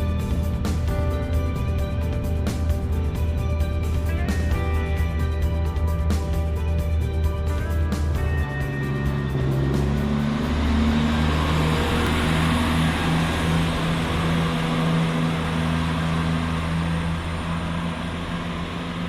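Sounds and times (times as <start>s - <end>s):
train rolling hum: 0.0s - 19.0s.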